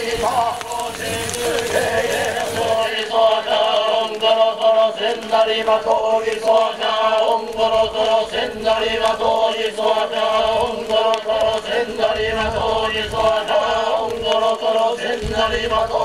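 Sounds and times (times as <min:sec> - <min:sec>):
group chanting in unison: 0:00.0 - 0:16.0.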